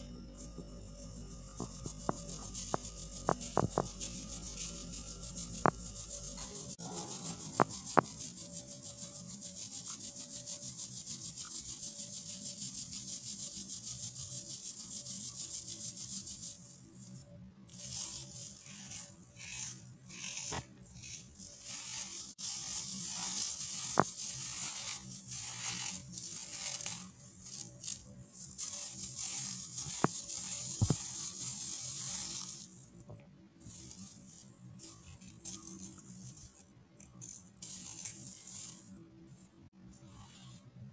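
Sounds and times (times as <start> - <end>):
powder rasping on wire mesh sieve: 1.0 - 32.9, 33.7 - 39.0.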